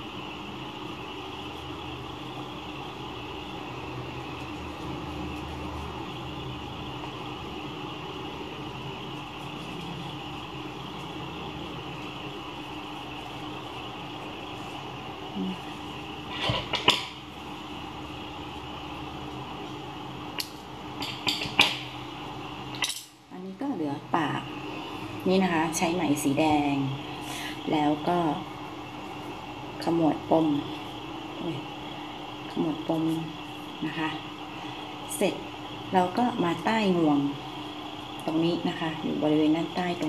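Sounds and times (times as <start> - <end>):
low hum with hiss: 0.0 - 40.0.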